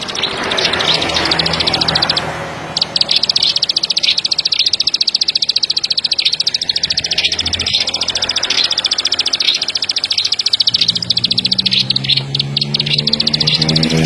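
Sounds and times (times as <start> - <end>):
songbird clicking trill: 0.0 - 14.0.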